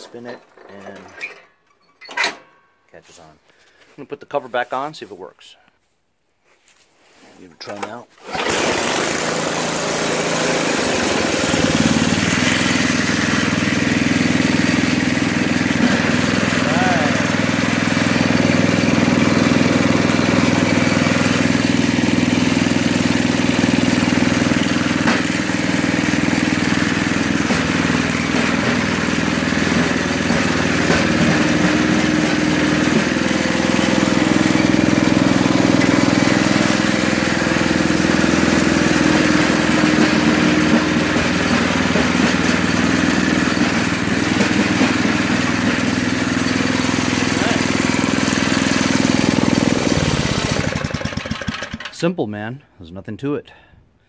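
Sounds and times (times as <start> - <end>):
snowblower engine running: 8.2 - 52.0.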